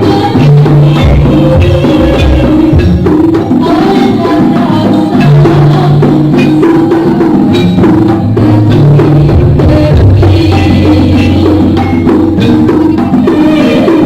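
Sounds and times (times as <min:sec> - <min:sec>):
drum strokes: 0:00.0 - 0:14.0
tuned percussion notes: 0:00.0 - 0:14.0.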